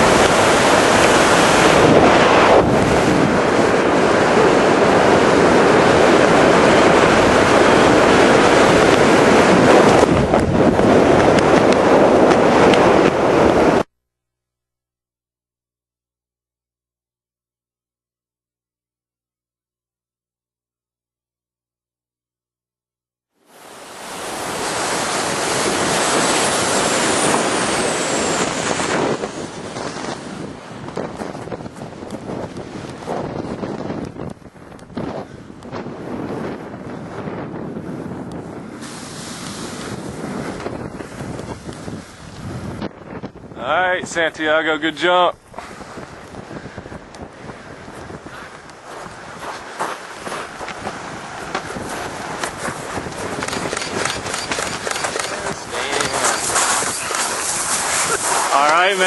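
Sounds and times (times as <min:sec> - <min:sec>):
wind rushing over microphone: 0:00.0 - 0:13.9, 0:23.5 - 0:59.0.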